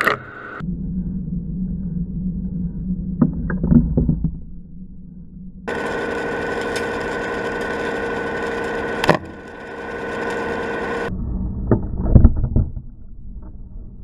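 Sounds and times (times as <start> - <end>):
hum with high whine: 0.0 - 14.0.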